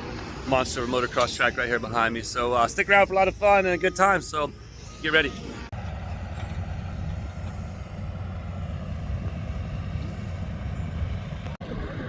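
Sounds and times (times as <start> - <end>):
distant dirt bike engines droning: 0.0 - 12.0.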